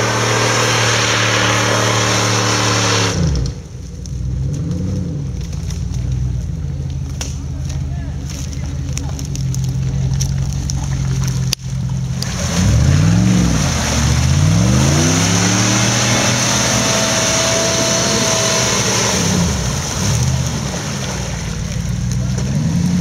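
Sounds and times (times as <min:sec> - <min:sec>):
tyres churning through muddy water: 0:00.0 - 0:03.5, 0:07.4 - 0:23.0
off-road engine revving: 0:00.0 - 0:23.0.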